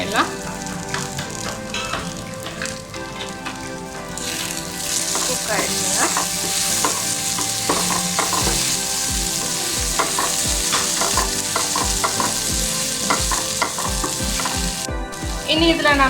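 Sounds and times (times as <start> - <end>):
food sizzling in oil: 0.0 - 16.0
spatula scraping pan: 0.0 - 16.0.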